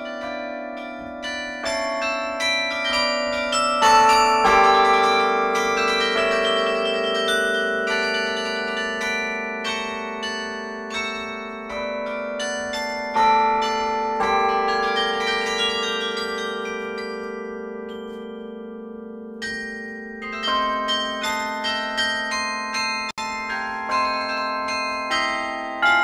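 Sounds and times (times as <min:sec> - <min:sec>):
carillon bell melody: 0:00.0 - 0:26.0
long-ringing low bells: 0:00.0 - 0:26.0.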